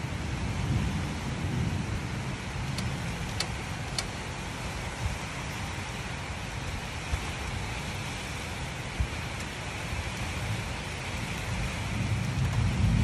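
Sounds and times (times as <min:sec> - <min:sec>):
rain hiss: 0:00.0 - 0:13.0
wind buffeting microphone: 0:00.0 - 0:13.0.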